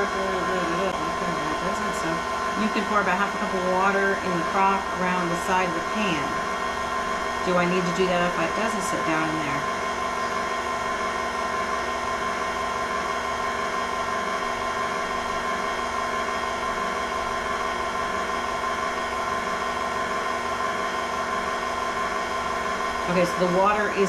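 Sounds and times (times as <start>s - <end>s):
stand mixer motor humming: 0.0s - 24.0s.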